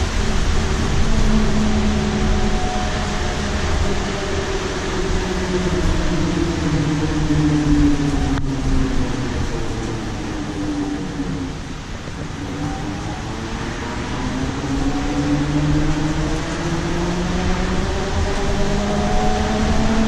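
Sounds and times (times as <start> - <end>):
road and tyre rumble: 0.0 - 20.0.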